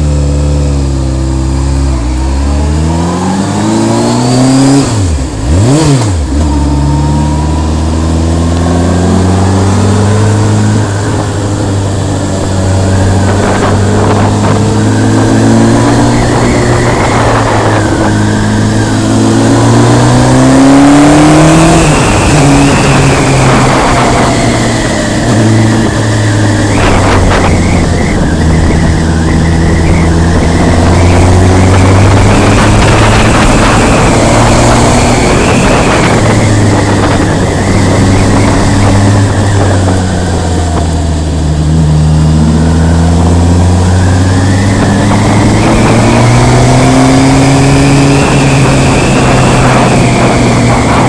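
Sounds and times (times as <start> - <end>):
motorcycle engine running: 0.0 - 20.6, 21.2 - 51.0
rushing wind noise: 0.0 - 51.0.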